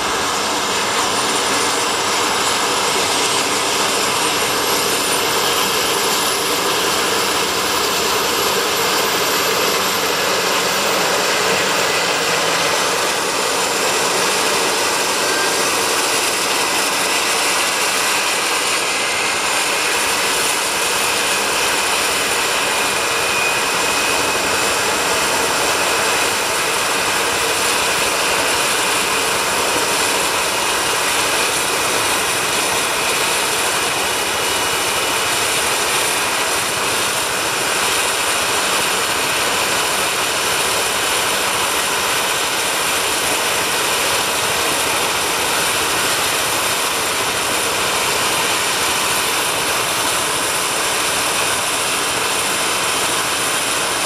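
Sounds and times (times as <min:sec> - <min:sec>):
helicopter rotor noise: 0:00.0 - 0:54.0
helicopter turbine whine: 0:00.0 - 0:54.0.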